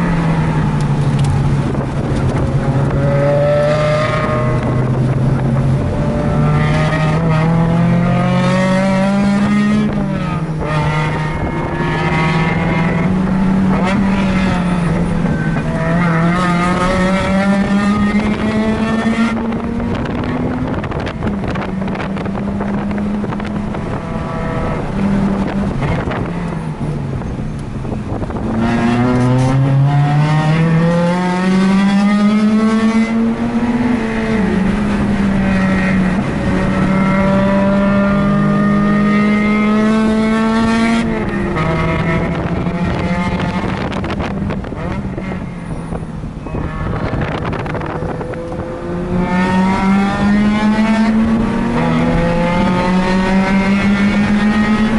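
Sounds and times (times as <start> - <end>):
rotary engine revving: 0.0 - 54.9
wind buffeting microphone: 0.0 - 54.9.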